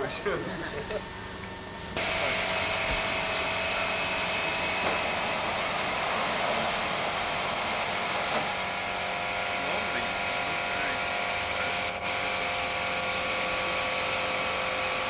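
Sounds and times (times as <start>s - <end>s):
loud steady hiss: 1.9s - 15.0s.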